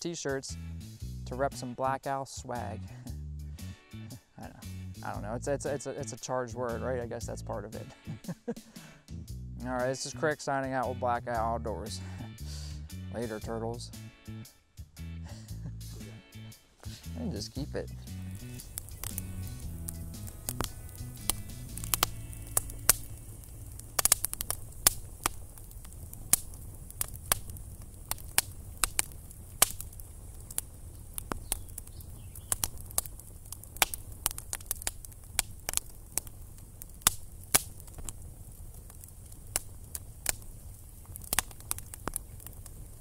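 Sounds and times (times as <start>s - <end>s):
campfire crackling: 0.0s - 43.0s
fire popping: 0.1s - 13.9s, 16.8s - 43.0s.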